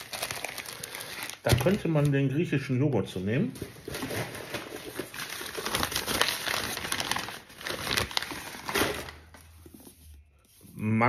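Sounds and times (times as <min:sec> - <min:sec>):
packing paper crumpling: 0:00.0 - 0:02.3, 0:03.7 - 0:10.6.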